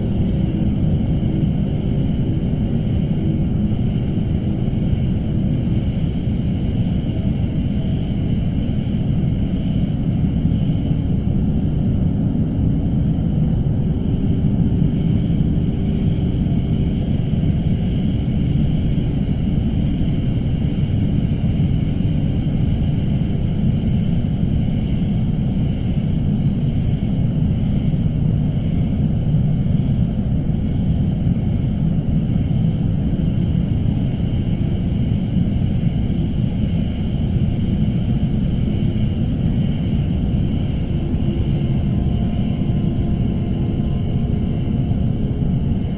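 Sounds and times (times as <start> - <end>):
low rumbling drone: 0.0 - 45.9.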